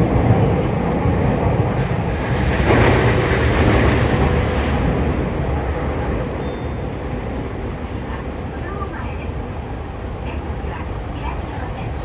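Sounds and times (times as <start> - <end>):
electric train rumbling inside: 0.0 - 12.0.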